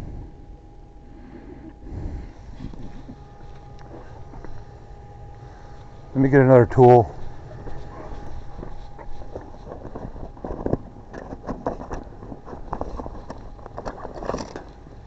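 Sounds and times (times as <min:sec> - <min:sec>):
faint steady hum: 0:00.0 - 0:15.0
steady low rumble: 0:00.0 - 0:15.0.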